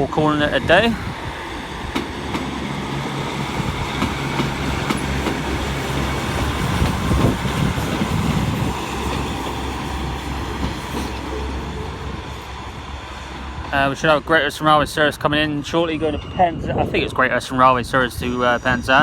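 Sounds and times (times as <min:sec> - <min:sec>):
diesel train engine drone: 0:00.0 - 0:19.0
rail rumble: 0:00.0 - 0:19.0.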